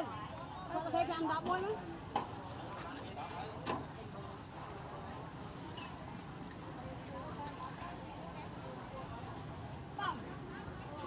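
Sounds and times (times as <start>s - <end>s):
cakes sizzling in a pan: 0.0s - 11.0s
murmur of voices: 0.0s - 11.0s.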